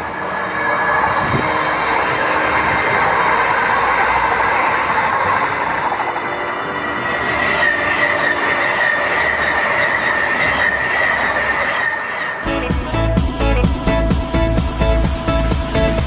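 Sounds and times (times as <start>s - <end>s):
electric train passing at speed: 0.0s - 16.0s
high whine of train: 0.0s - 16.0s.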